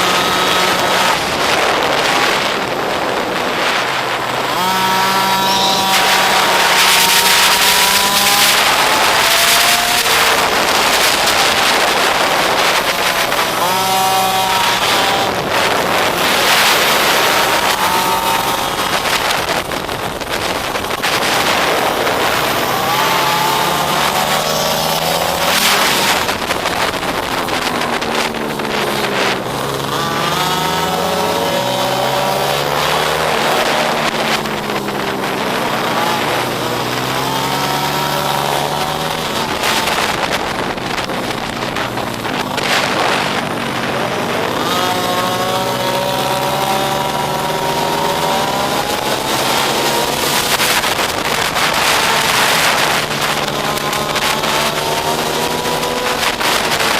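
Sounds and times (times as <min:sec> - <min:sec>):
small motorbike engine revving: 0:00.0 - 0:56.9
wind on microphone: 0:00.0 - 0:56.9.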